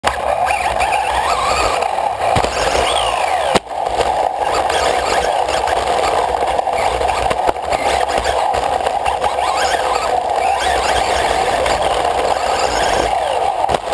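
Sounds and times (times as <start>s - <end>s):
rumble of chassis and tyres: 0.0s - 13.9s
toy car motor and gears whining: 0.0s - 13.9s.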